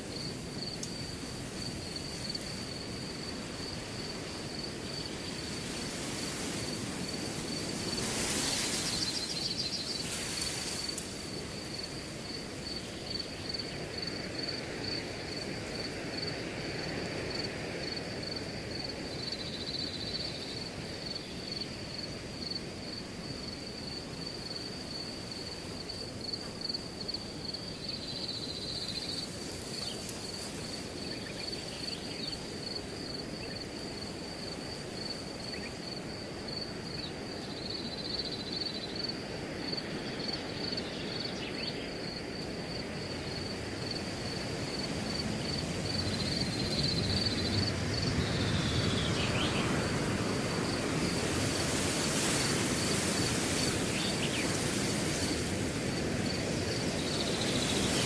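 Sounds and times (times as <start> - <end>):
crickets chirping: 0.0 - 58.0
wind blowing through grass: 0.0 - 58.0.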